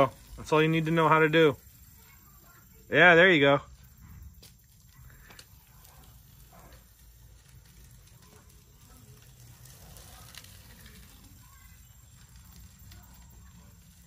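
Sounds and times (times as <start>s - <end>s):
light crackling: 0.0s - 14.0s.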